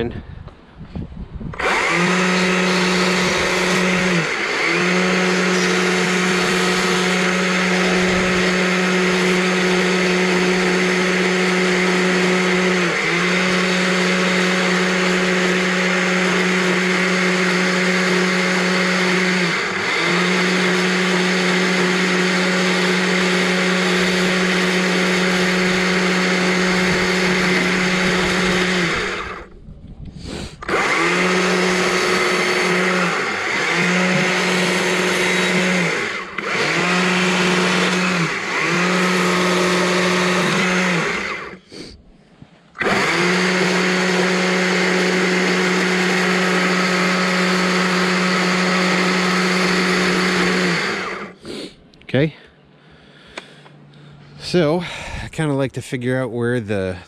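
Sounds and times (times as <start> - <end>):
chainsaw cutting log: 1.5 - 29.5, 30.3 - 42.0, 42.8 - 51.7.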